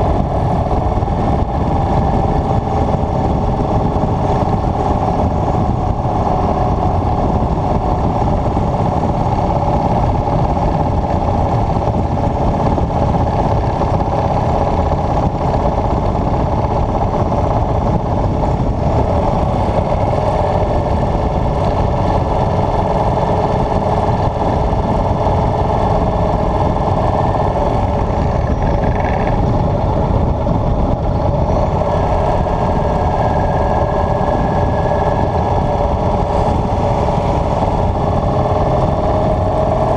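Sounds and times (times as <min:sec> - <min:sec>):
motorcycle engine cruising: 0:00.0 - 0:39.9
rushing wind noise: 0:00.0 - 0:39.9.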